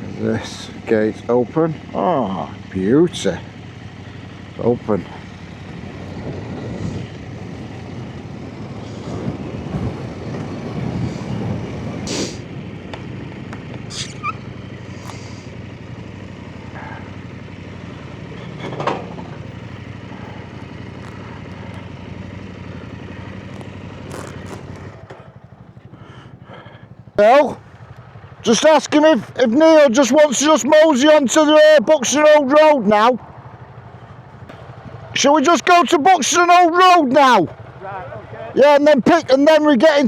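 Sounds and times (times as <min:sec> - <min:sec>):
motorbike engine running: 0:00.0 - 0:40.0.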